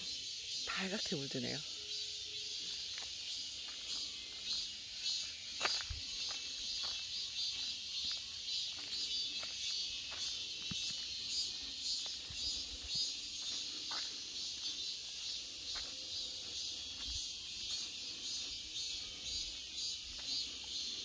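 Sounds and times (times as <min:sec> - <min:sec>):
insects singing: 0:00.0 - 0:21.0
footsteps on dirt path: 0:01.9 - 0:21.0.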